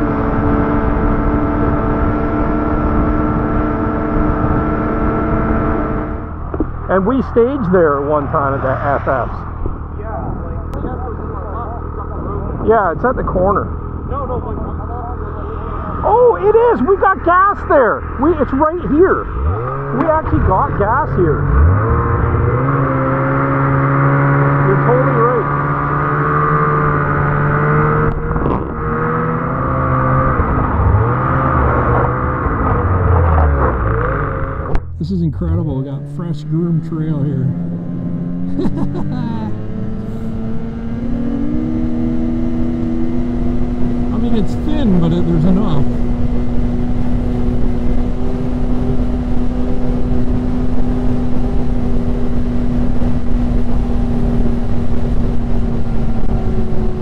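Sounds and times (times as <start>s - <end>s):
snowmobile engine: 0.0s - 57.0s.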